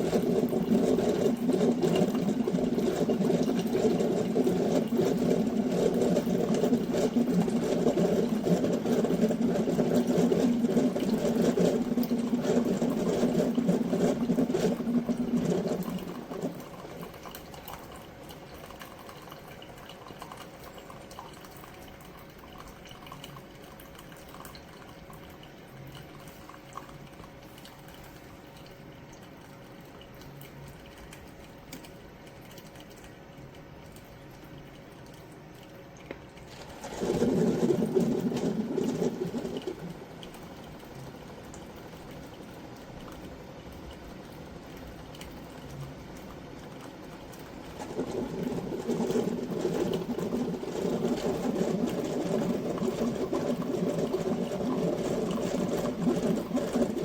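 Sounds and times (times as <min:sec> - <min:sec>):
coffee maker pump buzzing: 0:00.0 - 0:57.0.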